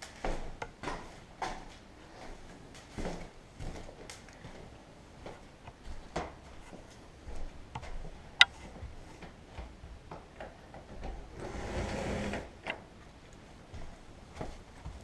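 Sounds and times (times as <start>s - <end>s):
footsteps: 0.0s - 11.4s, 12.9s - 15.0s.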